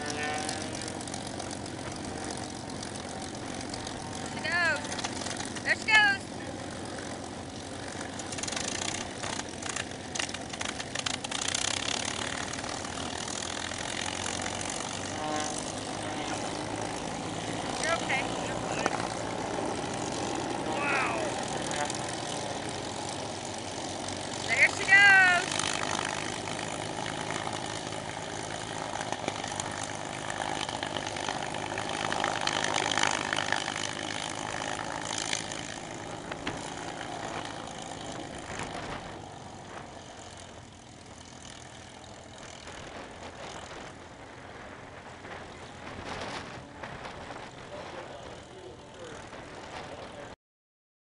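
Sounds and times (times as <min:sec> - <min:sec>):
aircraft piston engine running: 0:00.0 - 0:50.4.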